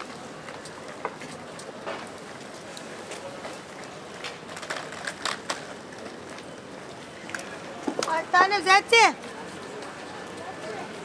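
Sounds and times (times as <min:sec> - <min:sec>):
city street hum and murmur: 0:00.0 - 0:11.0.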